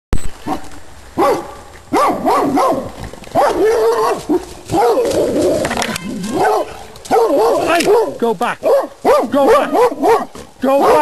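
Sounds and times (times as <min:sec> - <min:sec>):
dogs barking: 0:01.2 - 0:11.0.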